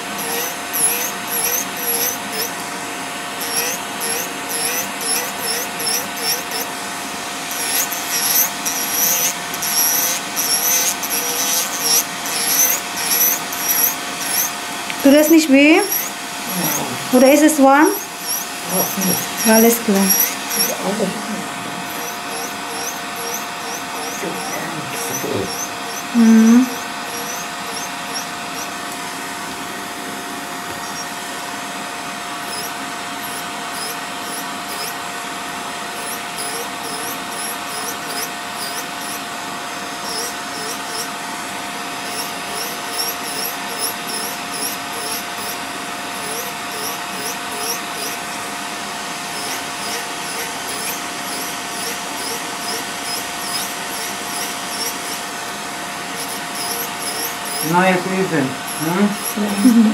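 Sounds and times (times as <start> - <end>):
electric nail drill whining: 0.0 - 59.9.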